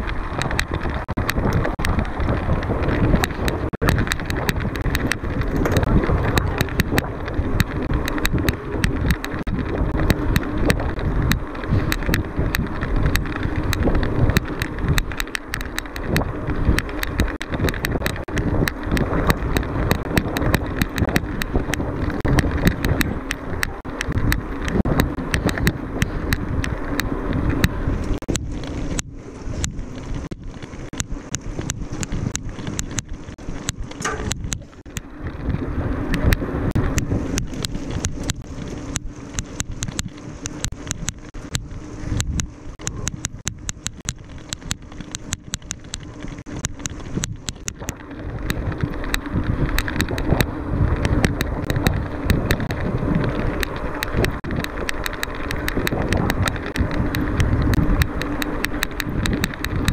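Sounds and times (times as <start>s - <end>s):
bike rattling clicks: 0.0s - 59.9s
tyre and wind noise: 0.0s - 59.9s.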